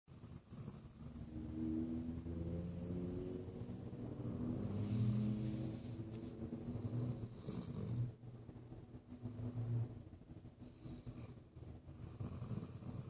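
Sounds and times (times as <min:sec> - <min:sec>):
dog snoring: 0:00.1 - 0:08.2, 0:10.6 - 0:13.0.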